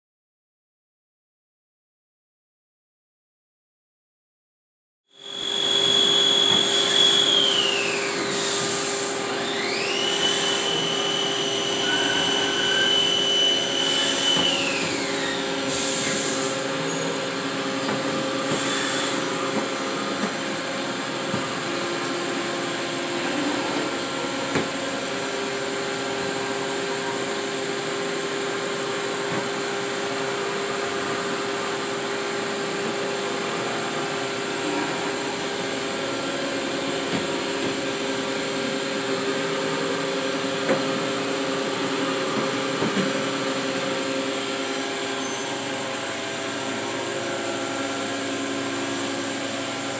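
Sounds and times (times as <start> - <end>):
high spindle whine: 5.2 - 29.2, 29.8 - 49.9.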